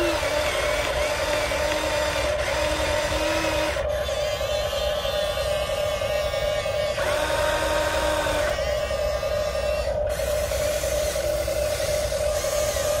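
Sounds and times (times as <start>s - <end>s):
higher motor whine: 0.0s - 13.0s
toy excavator motors whining: 0.0s - 13.0s.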